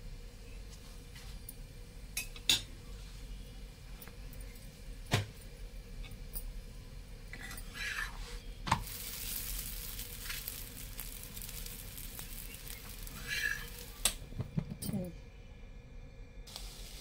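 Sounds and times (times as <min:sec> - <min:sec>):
minced meat sizzling in a pan: 0:00.0 - 0:14.7, 0:16.5 - 0:17.0.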